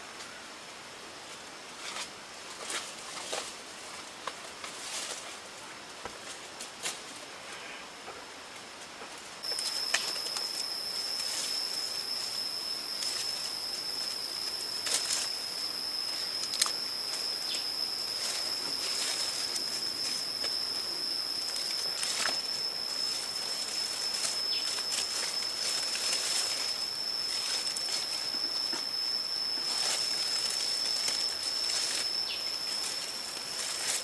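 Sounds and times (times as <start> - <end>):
steady high whine: 0.0 - 34.0
leaves rustling: 1.2 - 7.7, 8.5 - 34.0.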